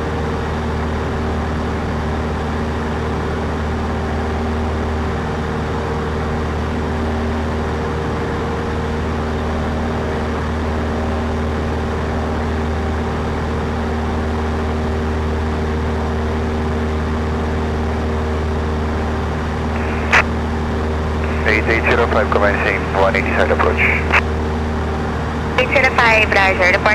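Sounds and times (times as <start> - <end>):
light aircraft engine droning: 0.0 - 26.9.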